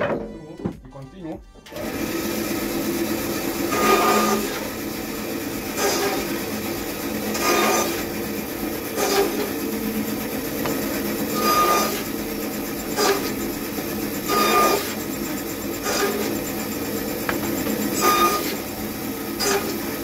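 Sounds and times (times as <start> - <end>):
bandsaw running: 1.6 - 20.0
bandsaw rasping through timber: 1.7 - 20.0.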